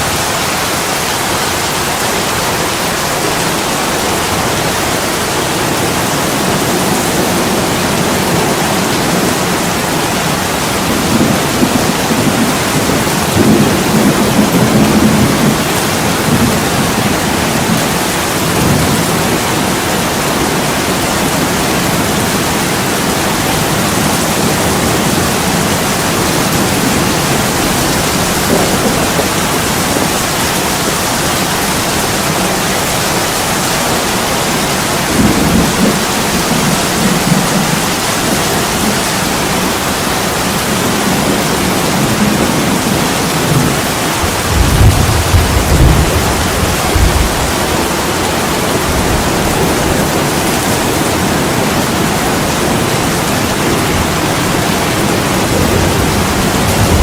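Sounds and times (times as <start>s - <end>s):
heavy rain on window glass: 0.0s - 57.0s.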